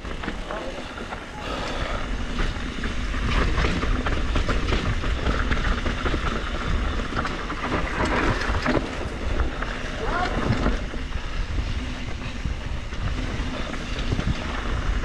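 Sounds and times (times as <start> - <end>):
bike clattering over bumps: 0.0 - 15.0
bike tyres on dirt and rock: 0.0 - 15.0
wind rumbling on microphone: 0.0 - 15.0.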